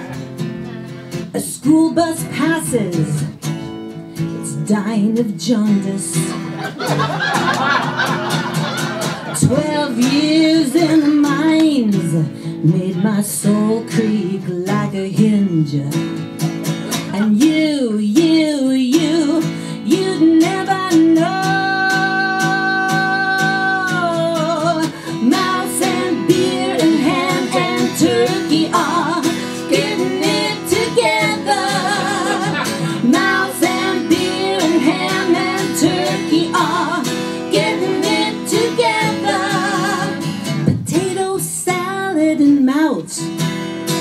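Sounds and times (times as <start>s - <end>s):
acoustic guitar strumming: 0.0s - 44.0s
women singing: 1.4s - 3.4s, 4.4s - 6.5s, 9.1s - 16.1s, 17.0s - 43.3s.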